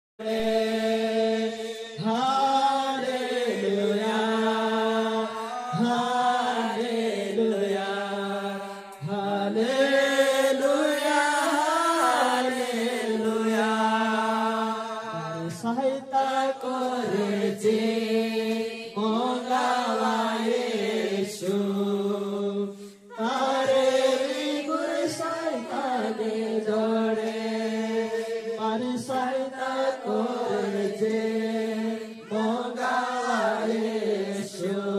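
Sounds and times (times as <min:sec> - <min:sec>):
group singing in unison: 0:00.2 - 0:34.9.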